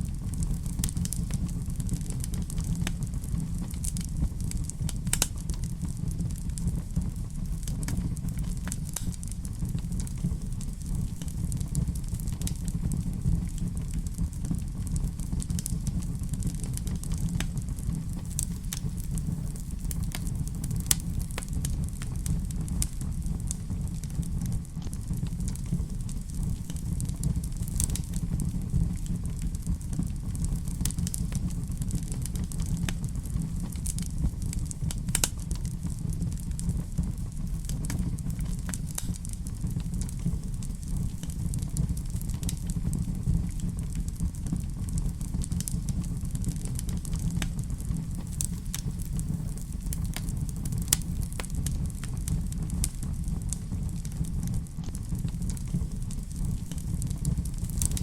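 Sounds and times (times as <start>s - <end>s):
fire crackles and pops: 0.0s - 58.0s
fire low rumble: 0.0s - 58.0s.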